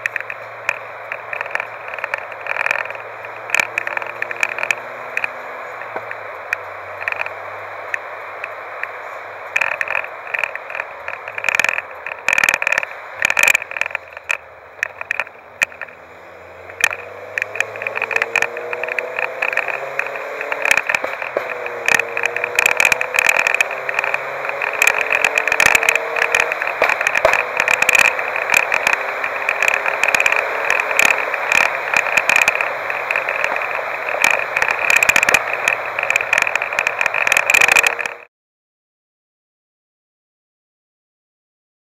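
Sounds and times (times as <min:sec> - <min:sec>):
car engine accelerating: 0:00.0 - 0:38.3.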